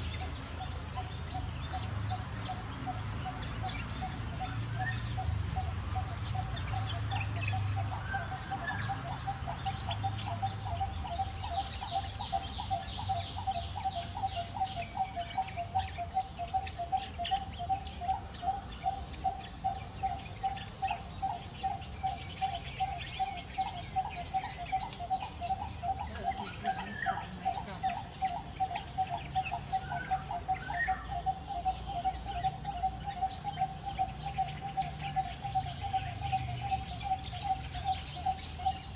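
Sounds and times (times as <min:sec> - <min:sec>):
higher bird chirps: 0:00.0 - 0:38.9.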